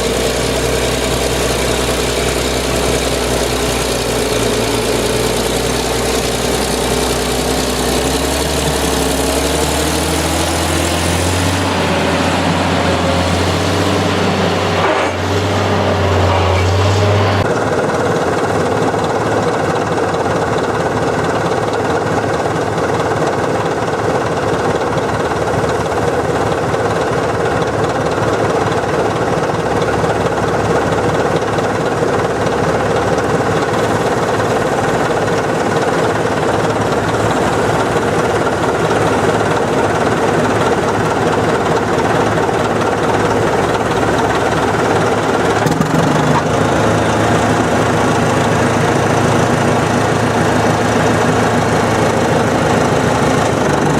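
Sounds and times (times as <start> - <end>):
diesel earthmover engine clattering: 0.0 - 53.9.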